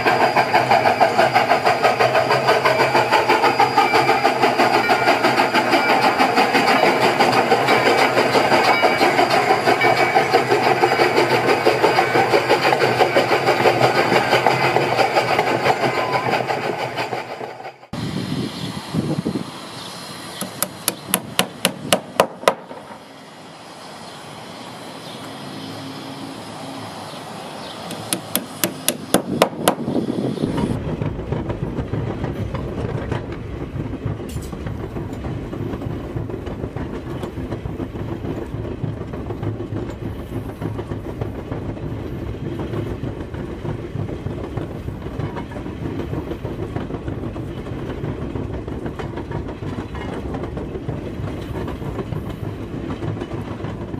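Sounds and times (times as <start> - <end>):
wheels clicking over rail joints: 0.0 - 18.0, 20.3 - 23.0, 27.1 - 53.9
railroad car rolling on track: 0.0 - 53.9.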